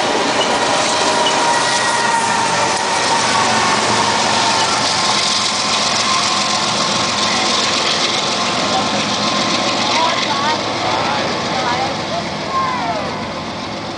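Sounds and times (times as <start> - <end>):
diesel locomotive engines: 0.0 - 13.9
wheels on rails: 0.0 - 13.9.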